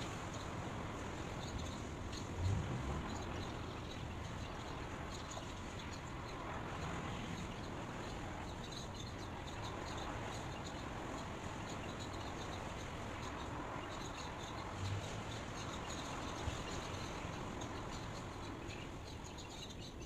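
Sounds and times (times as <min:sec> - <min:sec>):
birds chirping: 0:00.0 - 0:20.0
outdoor ambient noise: 0:00.0 - 0:20.0.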